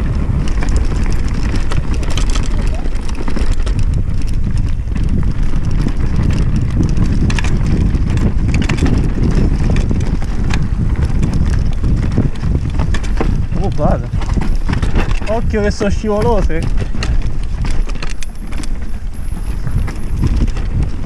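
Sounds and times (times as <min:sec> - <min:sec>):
bike rattling over roots and stones: 0:00.0 - 0:21.0
tyres rolling over dirt: 0:00.0 - 0:21.0
wind buffeting microphone: 0:00.0 - 0:21.0.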